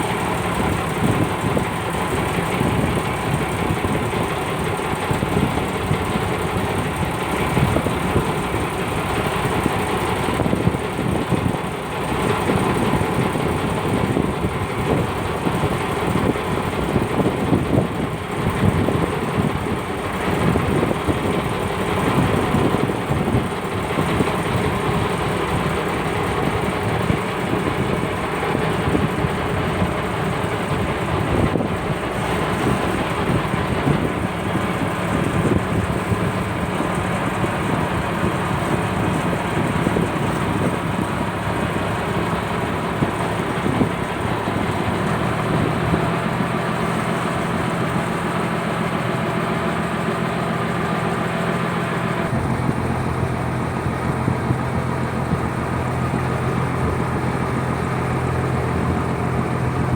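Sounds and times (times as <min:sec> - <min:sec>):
boat diesel engine running: 0:00.0 - 0:59.9.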